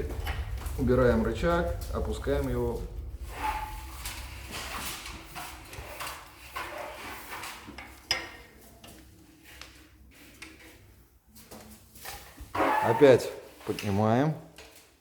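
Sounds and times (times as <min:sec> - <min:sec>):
wood fire crackling in stove: 0:00.0 - 0:15.0.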